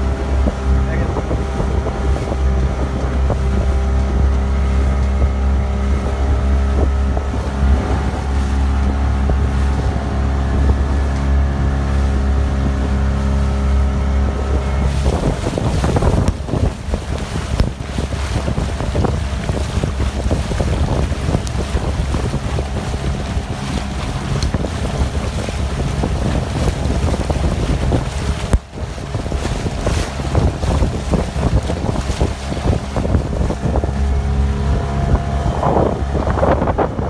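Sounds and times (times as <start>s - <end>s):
boat engine running: 0.0s - 37.0s
water splashing against hull: 0.0s - 37.0s
wind buffeting microphone: 0.0s - 37.0s.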